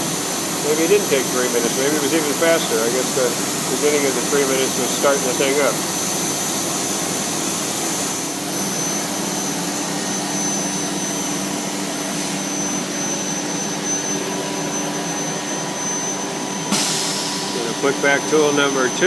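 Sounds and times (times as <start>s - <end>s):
router spindle whine: 0.0s - 19.0s
machine rushing noise: 1.2s - 19.0s.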